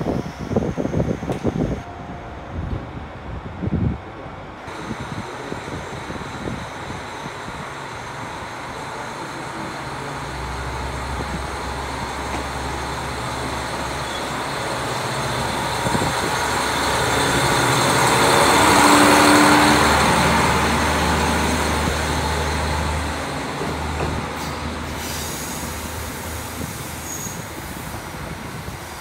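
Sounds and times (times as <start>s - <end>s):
diesel railcar engine passing: 0.0s - 29.0s.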